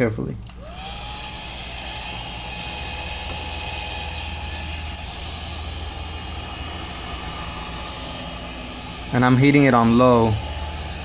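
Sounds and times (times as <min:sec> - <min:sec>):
heat gun blowing air: 0:00.5 - 0:11.0
motor whine: 0:00.5 - 0:11.0.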